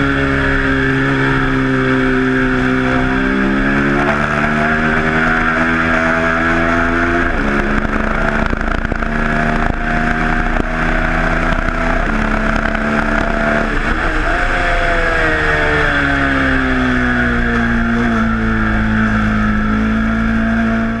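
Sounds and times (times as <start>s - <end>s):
motorcycle engine at high revs: 0.0s - 21.0s
wind rushing over microphone: 0.0s - 21.0s.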